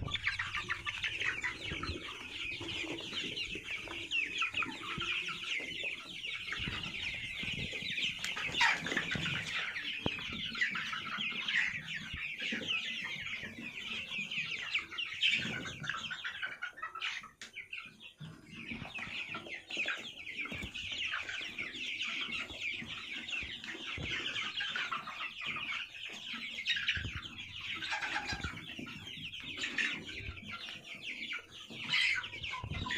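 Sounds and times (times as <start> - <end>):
chicks peeping and chirping: 0.0 - 32.9.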